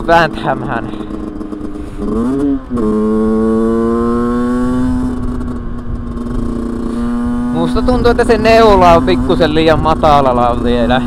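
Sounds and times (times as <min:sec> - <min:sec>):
moped engine revving: 0:00.0 - 0:11.0.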